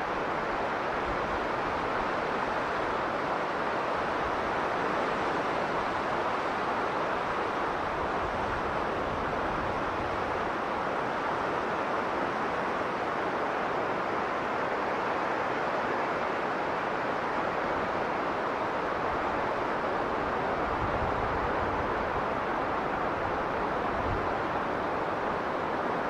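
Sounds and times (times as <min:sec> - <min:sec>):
strong blizzard wind blowing: 0:00.0 - 0:26.0.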